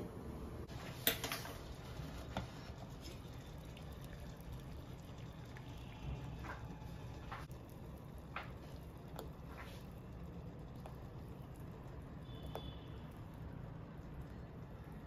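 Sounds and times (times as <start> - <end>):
water boiling in a pot: 0.6 - 15.0.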